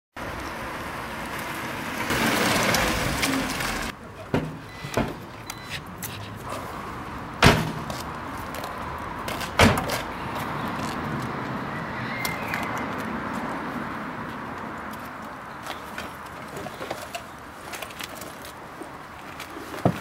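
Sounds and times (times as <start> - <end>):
car engine and tyre noise: 0.1 - 20.0.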